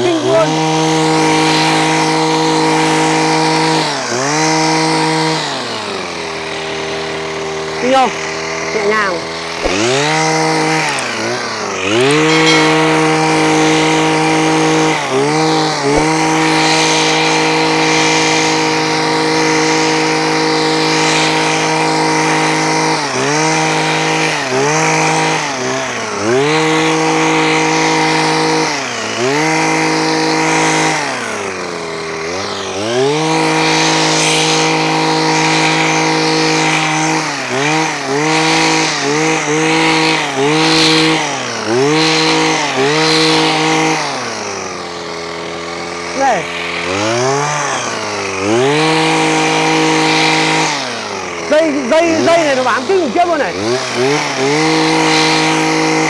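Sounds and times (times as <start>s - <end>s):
hedge trimmer engine revving: 0.0s - 56.0s.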